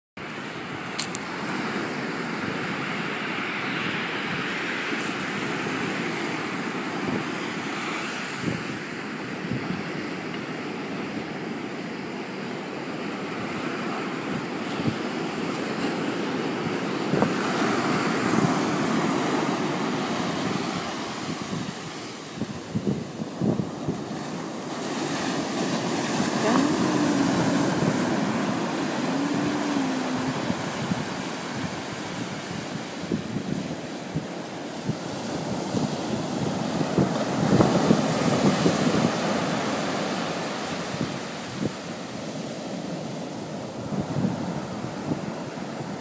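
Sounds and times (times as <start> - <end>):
ocean surf on sandy beach: 0.2 - 46.0
wind buffeting microphone: 0.6 - 12.2, 12.8 - 46.0.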